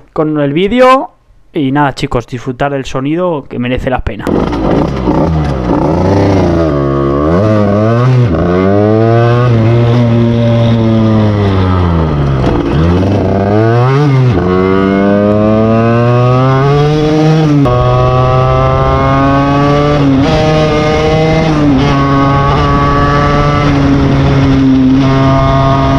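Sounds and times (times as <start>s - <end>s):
motorcycle engine revving: 4.3s - 25.9s.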